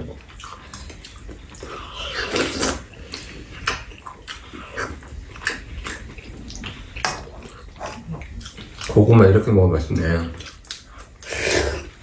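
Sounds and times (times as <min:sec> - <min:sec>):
people chewing and slurping: 0:00.0 - 0:12.0.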